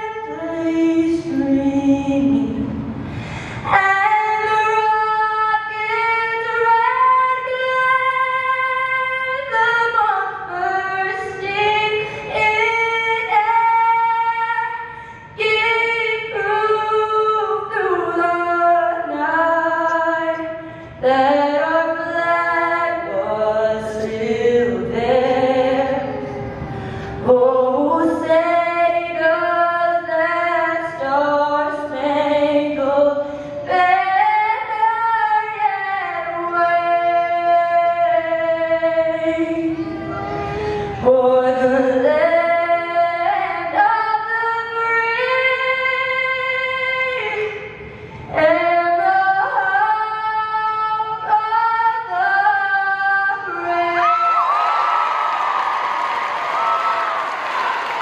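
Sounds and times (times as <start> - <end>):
woman singing unaccompanied: 0.0 - 2.8, 3.7 - 26.5, 27.2 - 47.7, 48.3 - 54.4.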